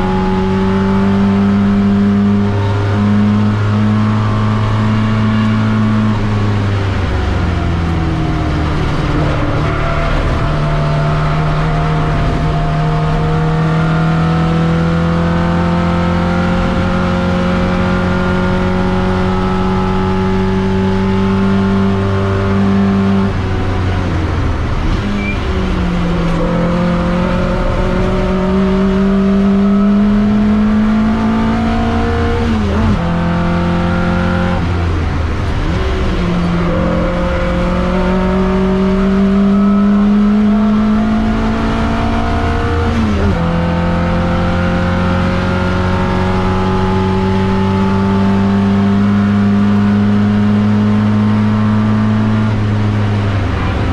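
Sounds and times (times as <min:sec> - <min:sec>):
race car engine high-revving: 0:00.0 - 0:53.9.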